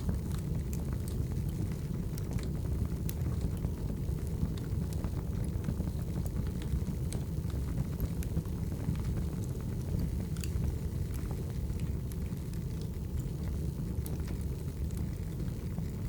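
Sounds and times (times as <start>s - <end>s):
fire flames rumbling: 0.0s - 16.0s
firewood crackling and popping: 0.0s - 16.0s.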